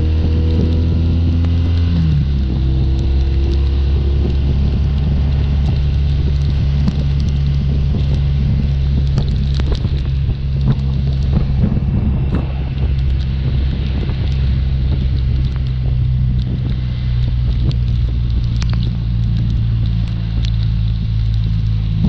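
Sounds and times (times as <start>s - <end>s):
motorcycle engine running steadily: 0.0s - 22.0s
rain ticking on motorcycle: 0.0s - 22.0s
wind rushing: 0.0s - 22.0s.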